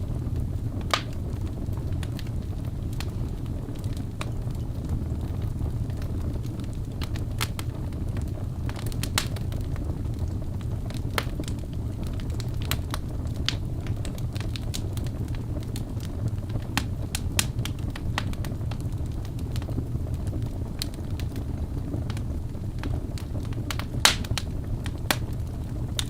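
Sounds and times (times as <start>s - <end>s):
fire crackling and popping: 0.0s - 26.0s
flames rumbling: 0.0s - 26.0s.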